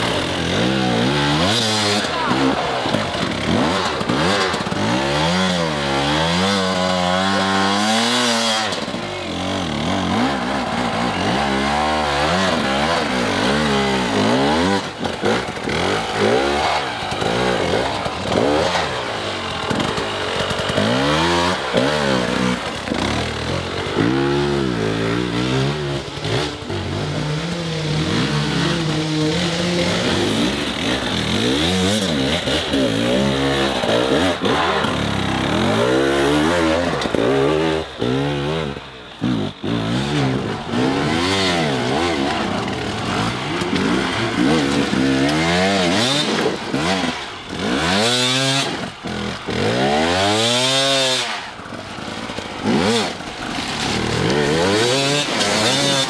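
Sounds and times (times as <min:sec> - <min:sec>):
motorcycle engine revving hard: 0:00.0 - 0:56.0.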